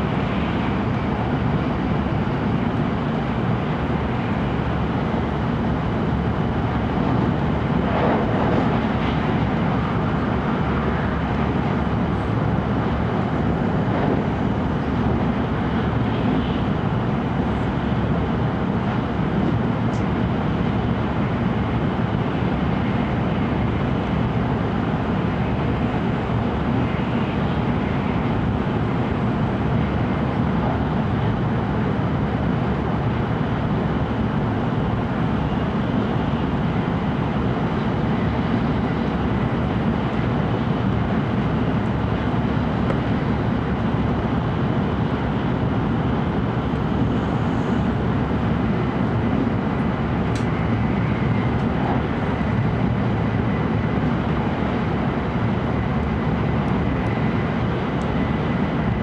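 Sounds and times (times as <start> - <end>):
train interior low rumble: 0.0 - 59.0.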